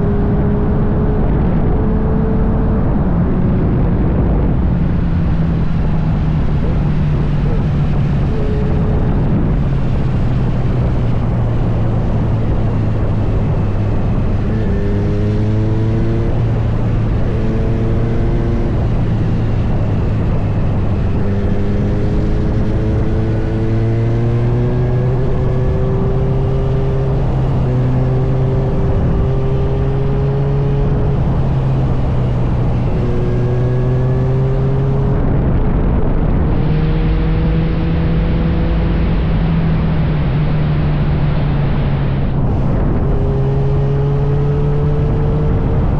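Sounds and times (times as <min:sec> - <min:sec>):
wind noise: 0:00.0 - 0:45.9.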